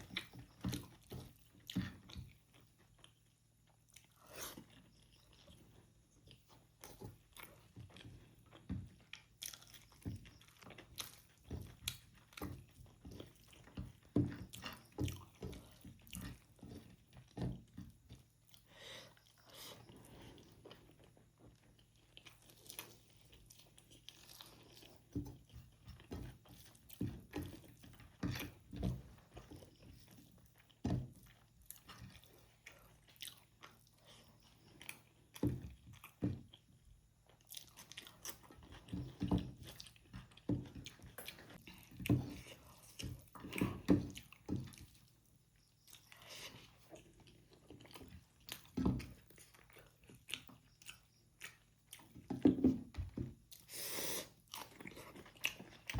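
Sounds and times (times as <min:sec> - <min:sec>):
close chewing and mouth sounds: 0:00.0 - 0:55.9.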